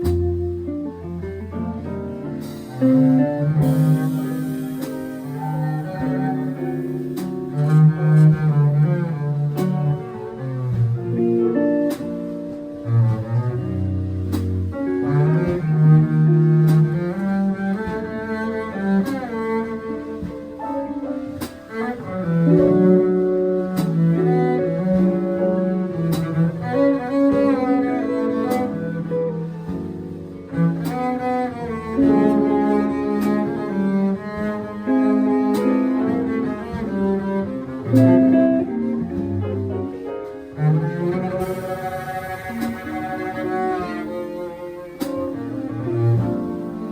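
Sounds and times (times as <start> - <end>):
jazz quartet playing: 0.0 - 46.9
low bass notes: 0.0 - 46.9
sharp drum strokes: 0.0 - 46.9.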